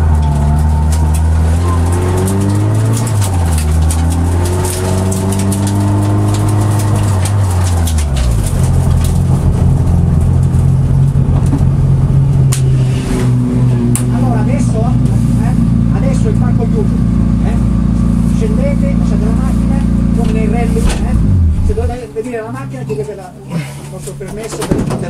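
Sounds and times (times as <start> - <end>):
car engine at low revs: 0.0 - 24.7.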